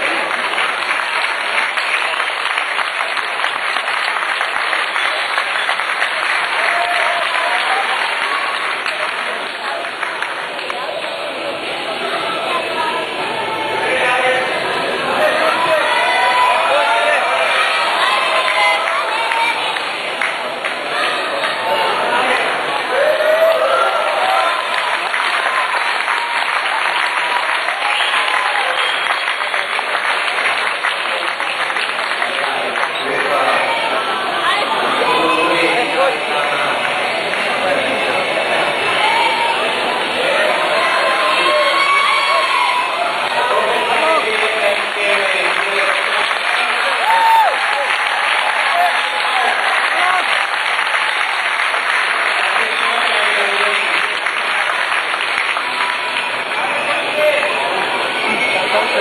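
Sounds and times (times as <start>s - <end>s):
crowd applauding: 0.0s - 59.0s.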